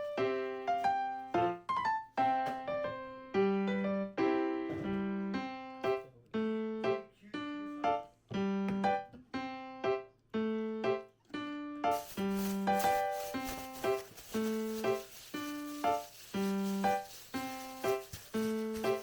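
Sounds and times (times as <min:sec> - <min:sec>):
light keyboard melody: 0:00.0 - 0:19.0.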